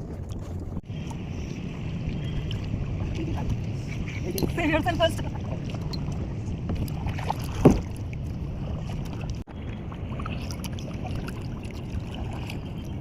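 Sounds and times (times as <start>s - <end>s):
water rushing: 0.8s - 13.0s.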